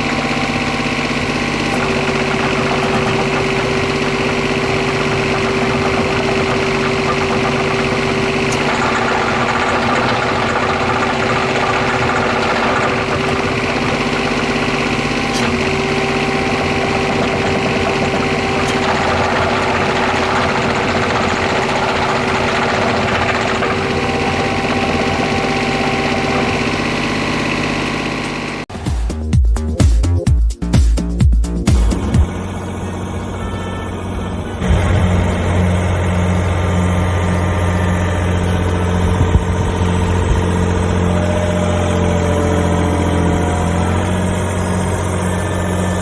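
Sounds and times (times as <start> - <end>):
machine whining: 0.0 - 28.6, 31.8 - 46.0
excavator diesel engine running: 0.0 - 46.0.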